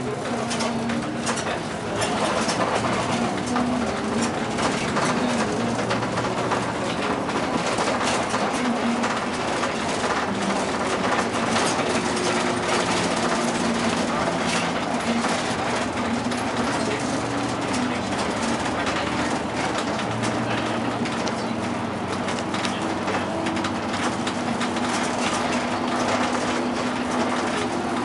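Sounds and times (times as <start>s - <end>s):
bus cabin rattling: 0.0s - 28.0s
bus engine droning: 0.0s - 28.0s.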